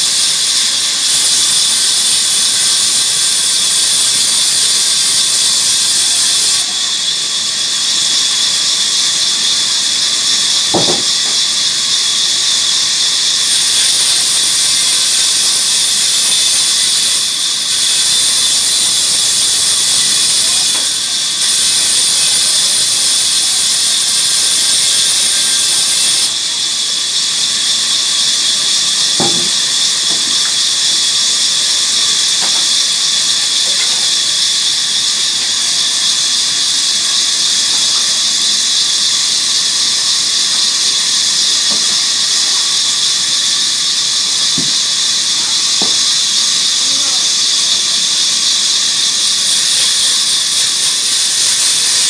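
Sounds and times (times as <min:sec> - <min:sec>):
sawmill saw whining: 0:00.0 - 0:52.0.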